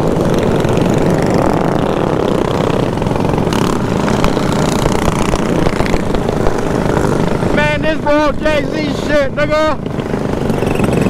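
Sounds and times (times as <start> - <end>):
mini bike engines running: 0.0 - 11.0
wind rushing over microphone: 0.0 - 11.0.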